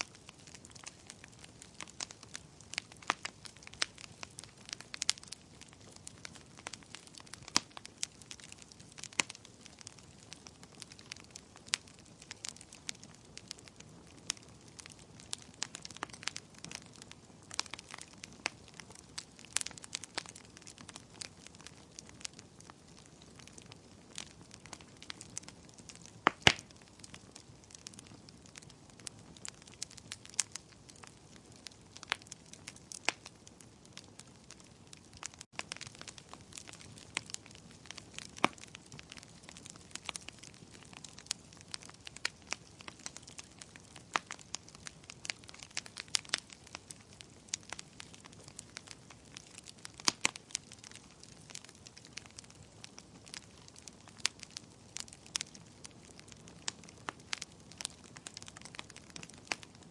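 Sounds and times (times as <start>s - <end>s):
bonfire wood popping and snapping: 0.0s - 59.9s
soft steady fire hiss: 0.0s - 59.9s.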